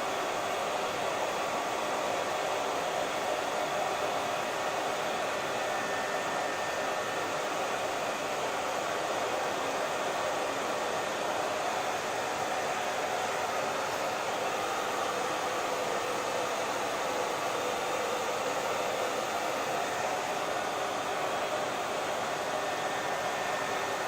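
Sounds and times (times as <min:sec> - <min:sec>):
hair dryer blowing: 0:00.0 - 0:24.0.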